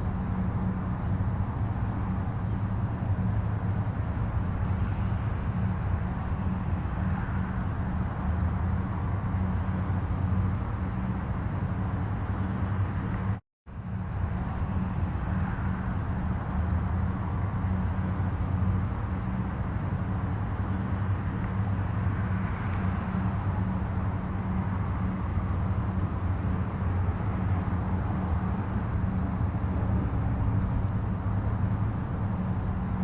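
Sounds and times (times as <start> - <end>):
distant highway traffic: 0.0 - 33.0.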